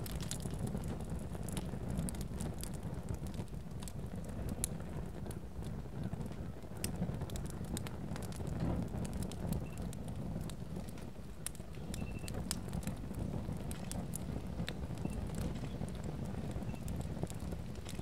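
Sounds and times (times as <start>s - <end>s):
fire crackling and popping: 0.0s - 18.0s
low rumble of burning: 0.0s - 18.0s.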